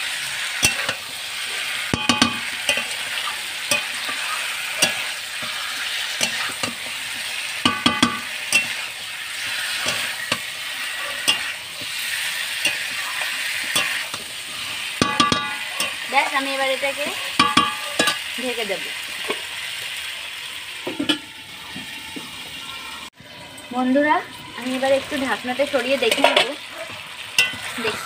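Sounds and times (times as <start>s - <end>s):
meat sizzling in a pan: 0.0s - 28.0s
metal pan ringing: 0.2s - 18.6s, 20.8s - 21.8s, 22.8s - 28.0s.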